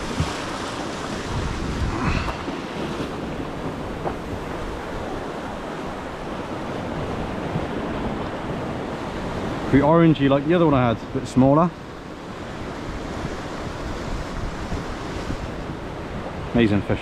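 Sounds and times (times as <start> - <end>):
sea surf breaking on rocks: 0.0 - 17.0
wind buffeting microphone: 0.0 - 17.0.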